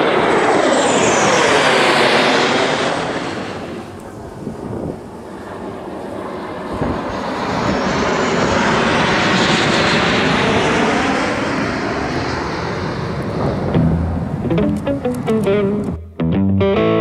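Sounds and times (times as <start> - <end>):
aircraft engine roar: 0.0 - 16.0.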